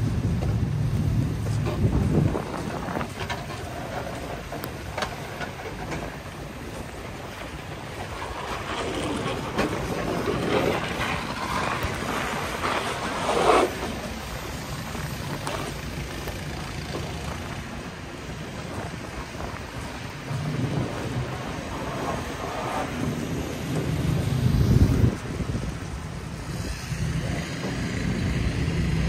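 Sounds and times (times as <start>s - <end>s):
street noise: 0.0s - 29.0s
wind rumble: 0.0s - 29.0s
snow shovel scraping sidewalk: 1.4s - 29.0s.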